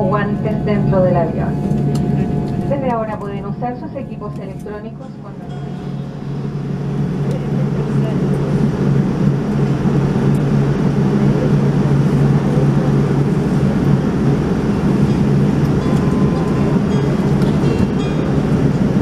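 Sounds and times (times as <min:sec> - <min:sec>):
airliner cabin drone: 0:00.0 - 0:19.0.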